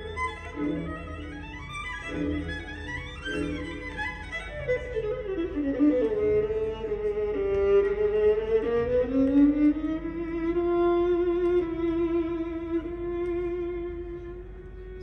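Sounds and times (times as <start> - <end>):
violin and strings music: 0.0 - 15.0.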